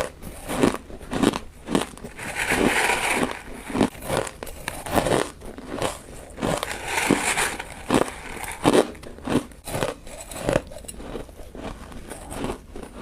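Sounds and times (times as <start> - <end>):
crunchy ice being chewed: 0.0 - 13.0.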